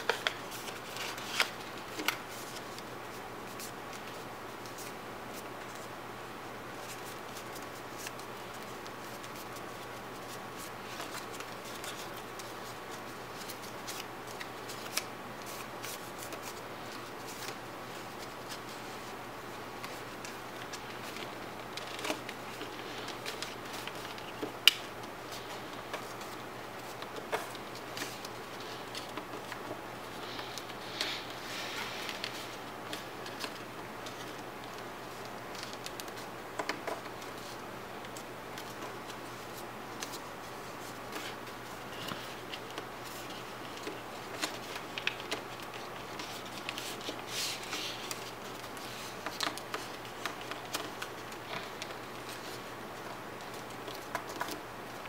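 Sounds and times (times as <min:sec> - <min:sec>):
paper being folded: 0:00.0 - 0:06.0, 0:06.7 - 0:55.0
faint steady hum: 0:00.0 - 0:55.0.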